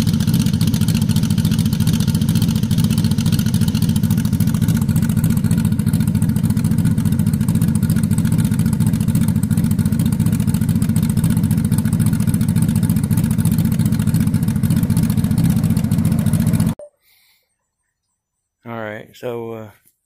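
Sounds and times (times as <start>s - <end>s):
motorcycle engine idling: 0.0s - 16.8s.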